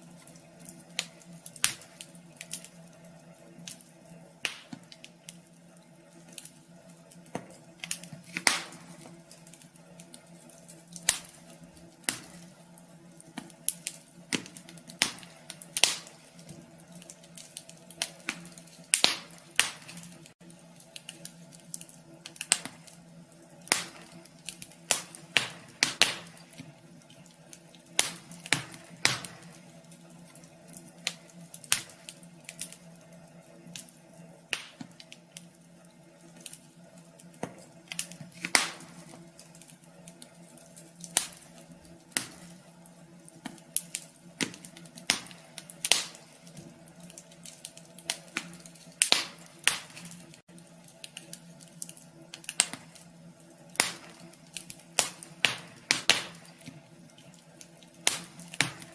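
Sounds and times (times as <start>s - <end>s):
faint steady hum: 0.0s - 58.9s
wood fire crackling: 0.0s - 58.9s.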